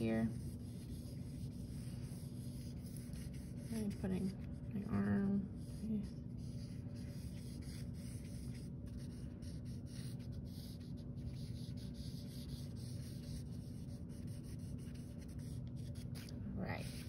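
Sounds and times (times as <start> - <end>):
pencil scratching on paper: 0.0 - 17.0
steady low hum: 0.0 - 17.0.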